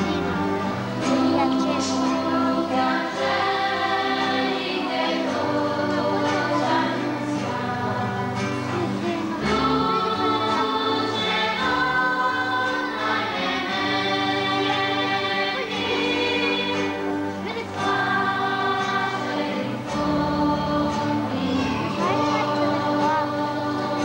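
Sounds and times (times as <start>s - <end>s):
choir singing held notes: 0.0s - 24.0s.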